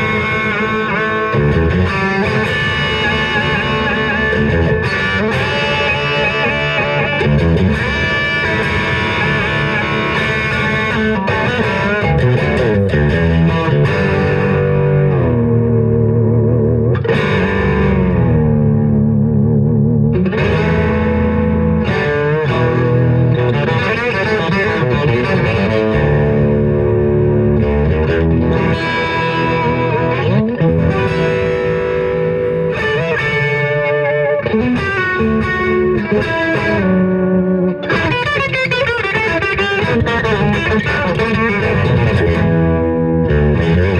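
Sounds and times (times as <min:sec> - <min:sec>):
distorted electric guitar with vibrato: 0:00.0 - 0:43.9.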